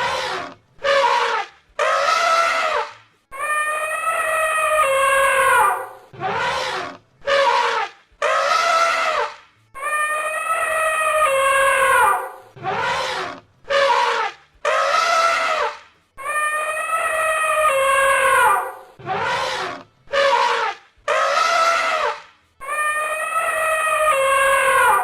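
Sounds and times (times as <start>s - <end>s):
elephant trumpeting: 0.0s - 25.0s.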